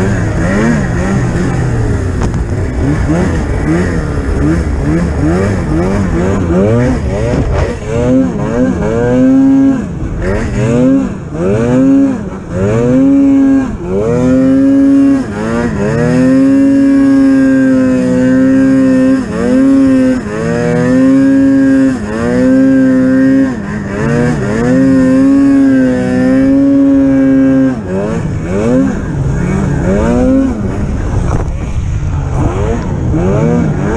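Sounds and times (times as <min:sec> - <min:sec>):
snowmobile engine revving hard: 0:00.0 - 0:33.9.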